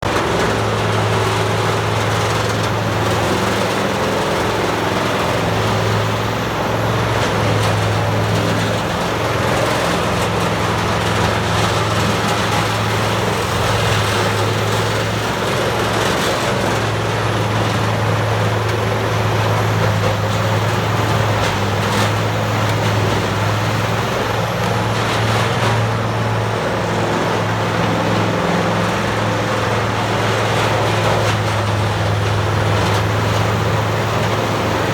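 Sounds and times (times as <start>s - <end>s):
wood grinder running: 0.0s - 34.9s.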